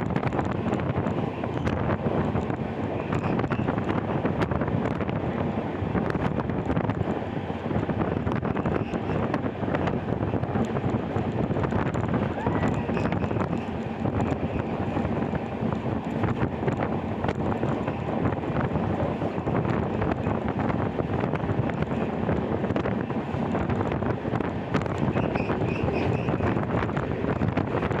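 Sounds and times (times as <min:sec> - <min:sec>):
train rumbling on track: 0:00.0 - 0:28.0
wind buffeting microphone: 0:00.0 - 0:28.0.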